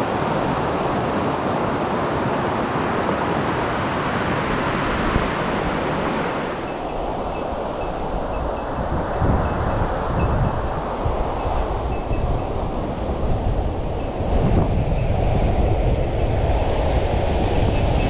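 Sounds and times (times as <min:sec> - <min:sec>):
wind over microphone: 0:00.0 - 0:18.0.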